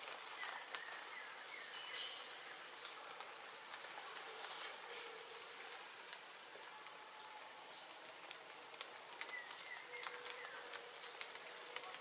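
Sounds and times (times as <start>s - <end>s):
drops ticking on leaves: 0.0s - 12.0s
light rain hiss: 0.0s - 12.0s.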